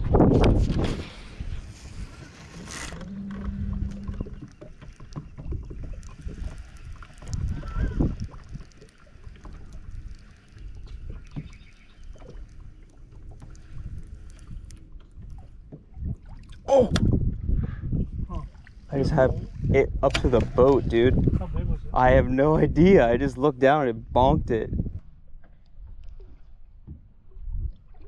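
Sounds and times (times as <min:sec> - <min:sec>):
wind rumble on microphone: 0:00.0 - 0:12.6, 0:13.2 - 0:28.0
water around moving boat: 0:00.0 - 0:28.0.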